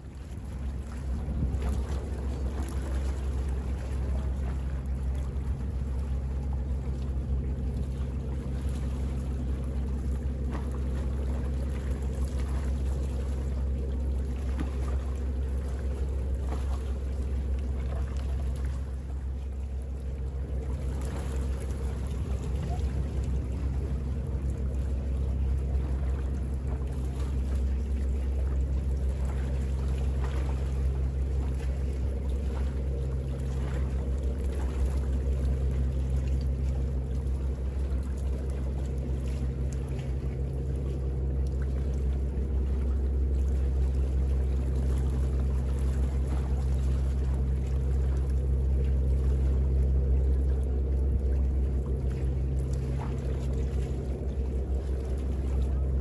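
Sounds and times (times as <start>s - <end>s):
low hum: 0.0s - 56.0s
waves lapping on shore: 0.0s - 56.0s.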